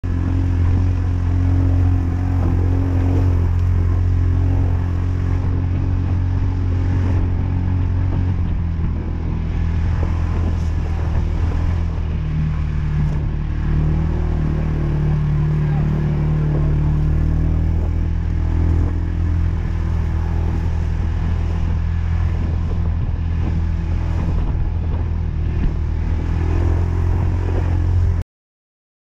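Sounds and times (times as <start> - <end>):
vehicle engine running: 0.0 - 28.2.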